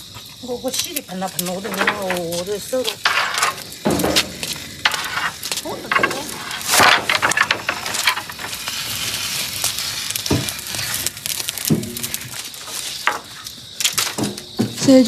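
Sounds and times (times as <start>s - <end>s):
loud pops from fire: 0.0s - 15.0s
wood fire crackling: 0.0s - 15.0s.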